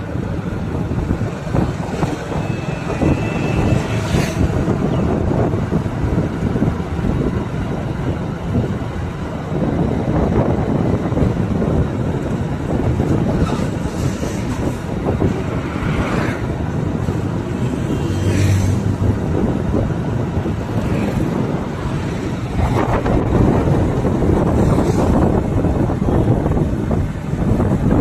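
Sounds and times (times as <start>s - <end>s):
low rumbling vehicle noise: 0.0s - 28.0s
wind buffeting microphone: 0.0s - 28.0s.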